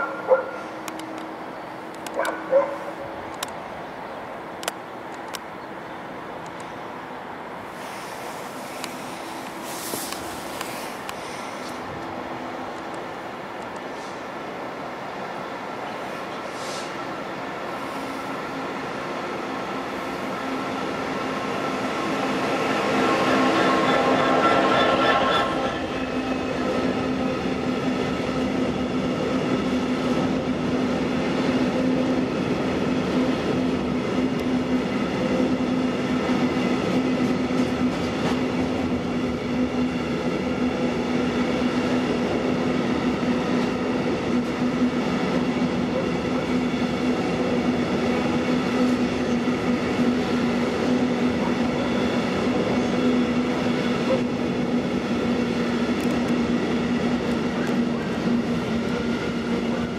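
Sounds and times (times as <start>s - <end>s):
train humming: 0.0s - 59.9s.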